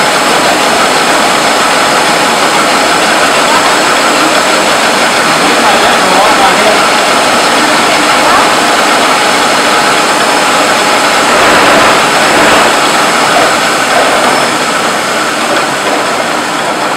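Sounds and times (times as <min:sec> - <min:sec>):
milling machine running: 0:00.0 - 0:16.9.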